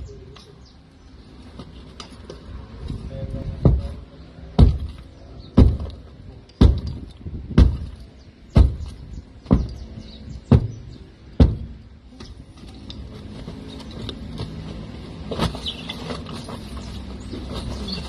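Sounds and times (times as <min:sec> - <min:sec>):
heavy blows on brick wall: 0:01.5 - 0:18.0.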